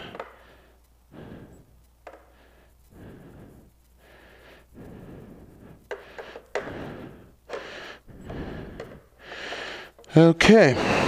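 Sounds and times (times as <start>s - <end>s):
person breathing slowly: 0.0s - 11.0s.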